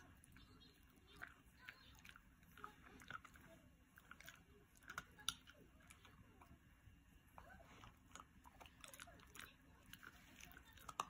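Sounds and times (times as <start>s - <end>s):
dog gnawing a chew: 0.0s - 6.7s, 7.3s - 11.0s.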